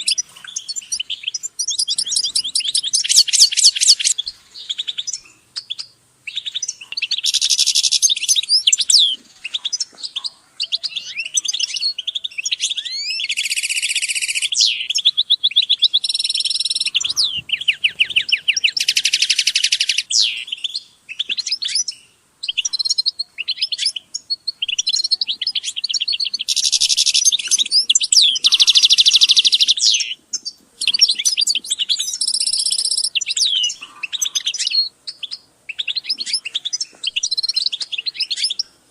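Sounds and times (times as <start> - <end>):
finches twittering and trilling: 0.0 - 38.7.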